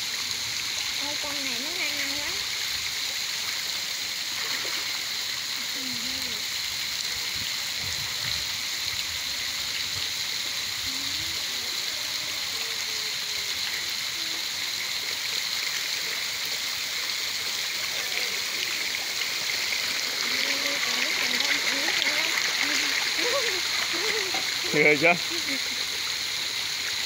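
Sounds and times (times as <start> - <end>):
water rushing and splashing: 0.0 - 27.0.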